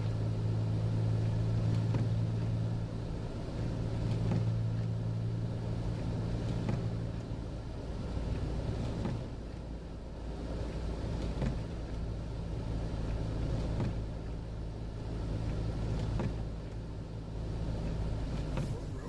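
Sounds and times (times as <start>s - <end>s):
car engine hum from inside: 0.0s - 19.0s.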